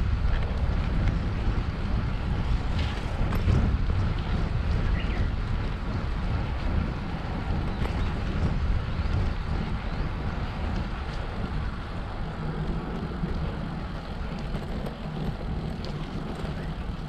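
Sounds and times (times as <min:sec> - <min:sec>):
road noise: 0:00.0 - 0:17.0
wind noise on microphone: 0:00.0 - 0:17.0.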